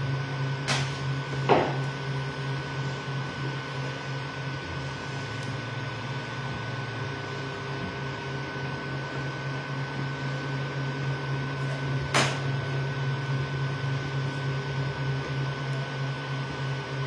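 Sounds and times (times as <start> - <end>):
printer motors and fans humming: 0.0 - 17.0
thin steady whine: 0.0 - 17.0.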